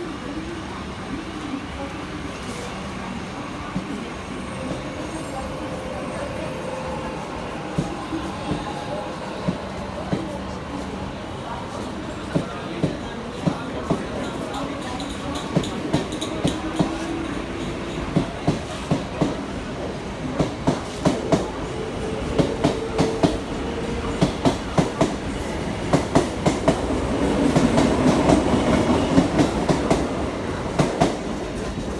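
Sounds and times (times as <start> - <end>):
train rumble: 0.0 - 31.9.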